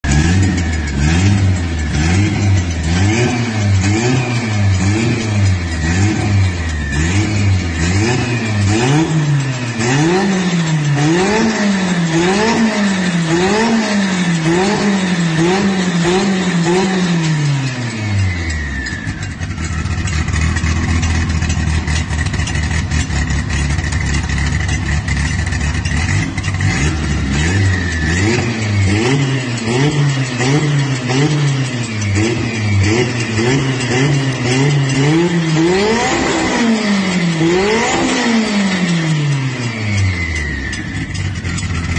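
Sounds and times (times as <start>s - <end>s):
car engine idling: 0.0s - 41.9s
car engine revving: 0.0s - 41.9s.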